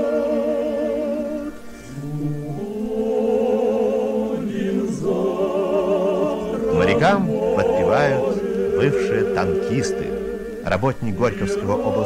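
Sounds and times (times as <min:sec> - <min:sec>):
men's chorus singing: 0:00.0 - 0:12.0.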